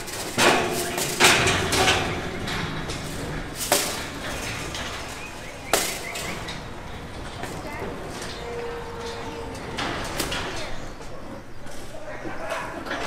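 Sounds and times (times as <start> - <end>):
metal gates clanging: 0.0 - 11.6.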